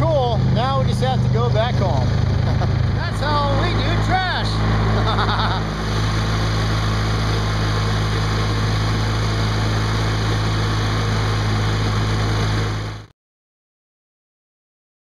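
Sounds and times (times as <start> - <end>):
small engine running: 0.0 - 13.1.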